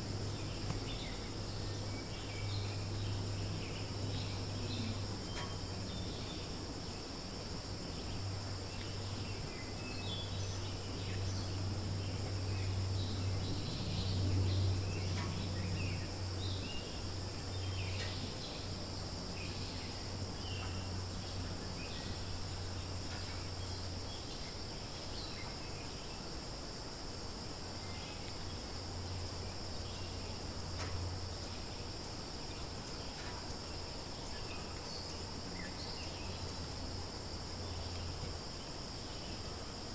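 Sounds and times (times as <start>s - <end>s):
insects droning: 0.0s - 39.9s
low steady hum: 0.0s - 39.9s.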